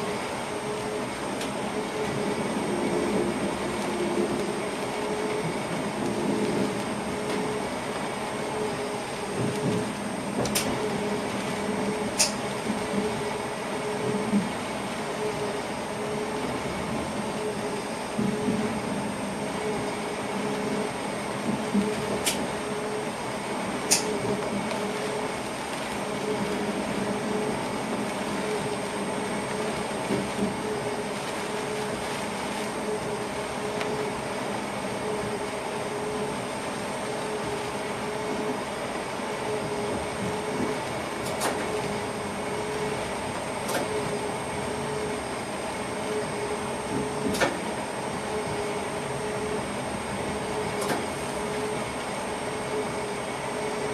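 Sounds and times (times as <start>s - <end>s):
train running noise: 0.0s - 53.9s.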